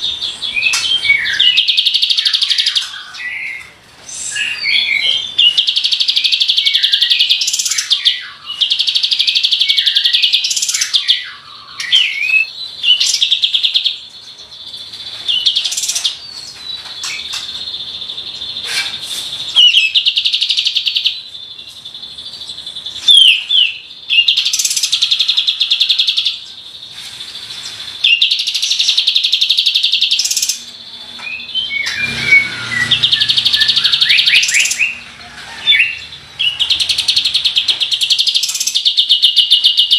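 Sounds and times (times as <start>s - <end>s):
bird chirps: 0.0s - 39.9s.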